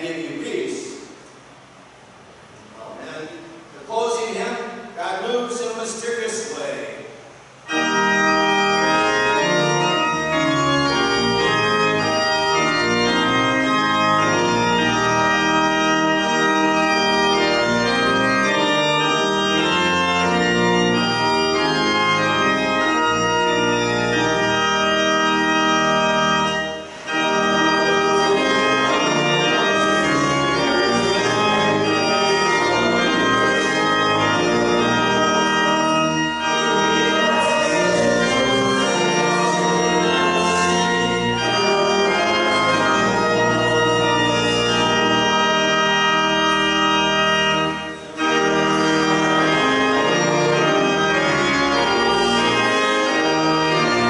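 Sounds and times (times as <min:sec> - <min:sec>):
church organ chords: 0:00.0 - 0:54.0.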